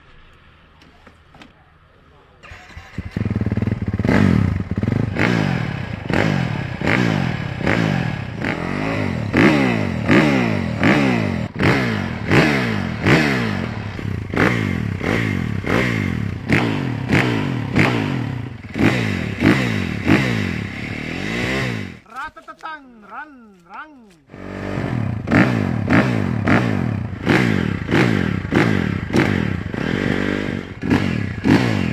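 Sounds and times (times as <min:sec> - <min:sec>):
dirt bike engine revving: 0:02.4 - 0:22.1, 0:24.3 - 0:31.9.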